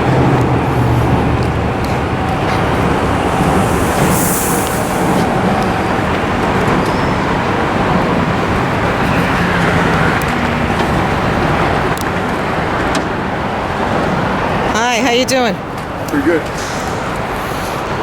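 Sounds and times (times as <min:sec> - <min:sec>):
diesel truck engine rumble: 0:00.0 - 0:14.7.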